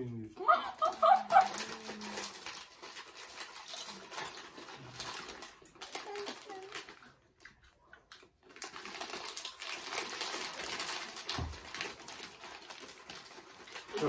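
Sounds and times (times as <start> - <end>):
foil chip bags crinkling: 0.5 - 14.0
potato chips crunching: 0.8 - 14.0.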